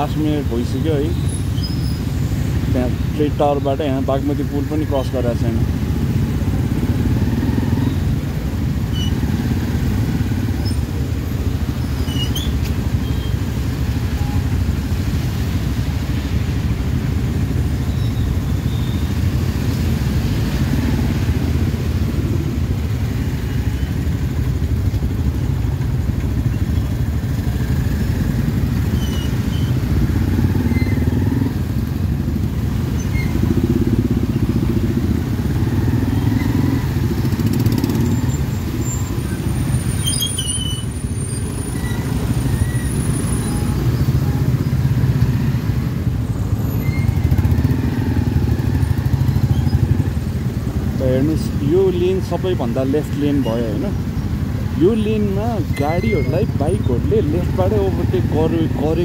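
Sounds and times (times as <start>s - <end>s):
motorcycle low rumble: 0.0s - 59.0s.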